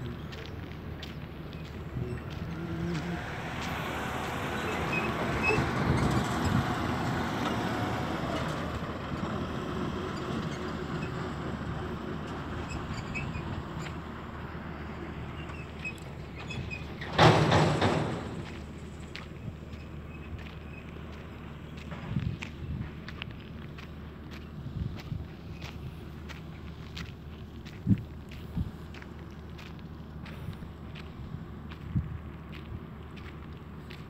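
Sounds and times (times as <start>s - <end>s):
heavy truck engine passing: 0.0s - 34.0s.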